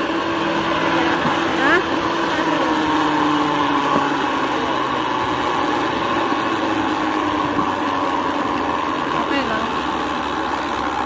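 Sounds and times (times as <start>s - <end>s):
rail trolley on tracks: 0.0s - 11.0s.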